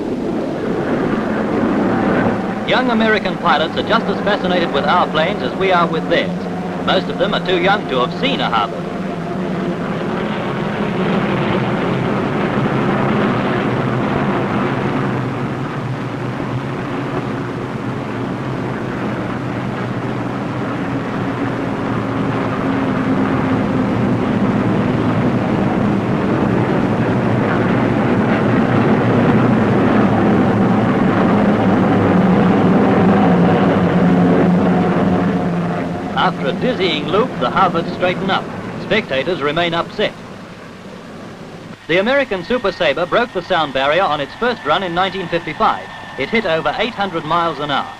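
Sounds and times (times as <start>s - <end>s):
propeller plane engines droning: 0.0s - 47.9s.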